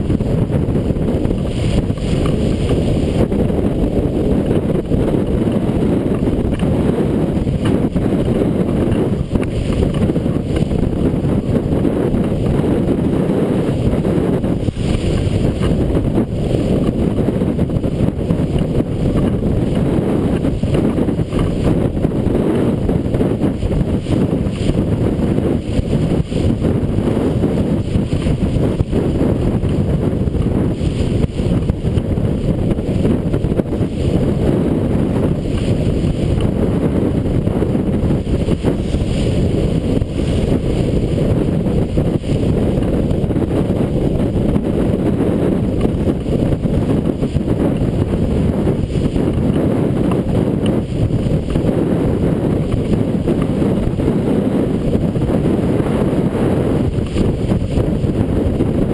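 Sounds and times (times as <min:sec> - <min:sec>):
water splashing along hull: 0:00.0 - 0:58.9
wind buffeting microphone: 0:00.0 - 0:58.9.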